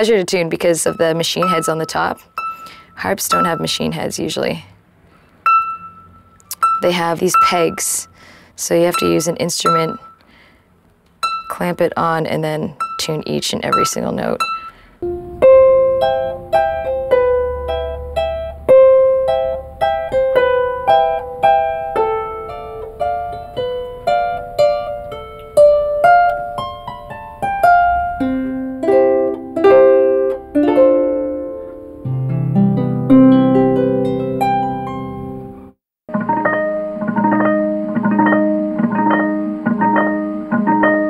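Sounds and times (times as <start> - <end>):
harp plucked melody: 0.6 - 4.2, 5.4 - 10.3, 11.2 - 11.8, 12.7 - 41.0.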